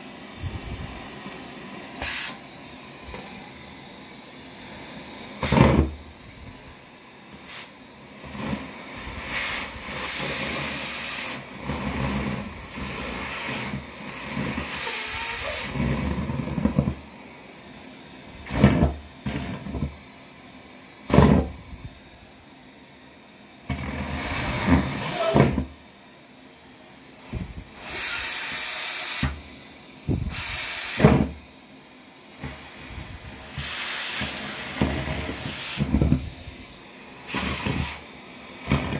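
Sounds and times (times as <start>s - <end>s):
vacuum cleaner sucking air: 0.0s - 38.9s.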